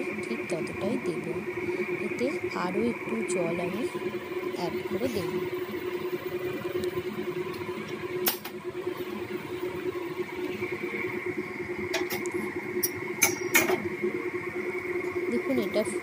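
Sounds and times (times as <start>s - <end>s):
curry boiling hum and hiss: 0.0s - 16.0s.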